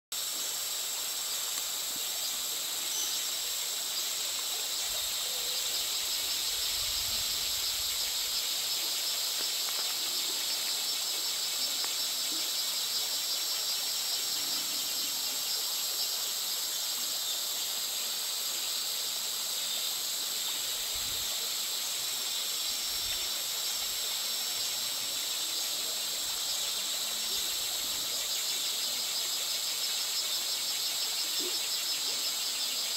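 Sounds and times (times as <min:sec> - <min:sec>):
insects trilling: 0:00.2 - 0:32.9.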